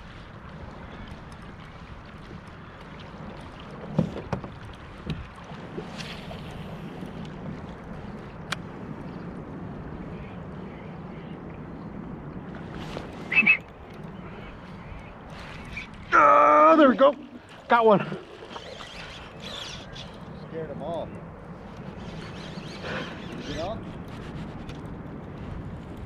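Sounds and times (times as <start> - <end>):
wind on microphone: 0.0 - 16.2, 18.2 - 26.0.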